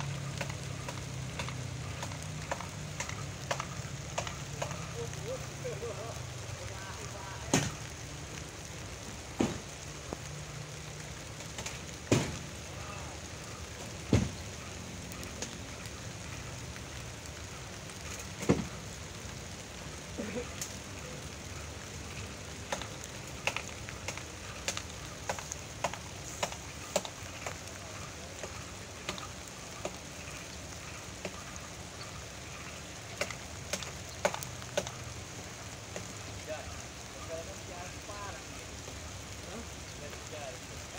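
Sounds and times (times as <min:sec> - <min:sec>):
light rain falling: 0:00.0 - 0:40.9
raindrops tapping: 0:00.0 - 0:40.9.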